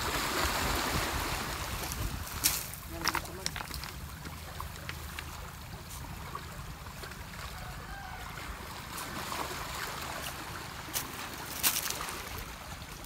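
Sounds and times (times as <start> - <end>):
water washing on pebbles: 0.0 - 7.7, 8.4 - 13.0.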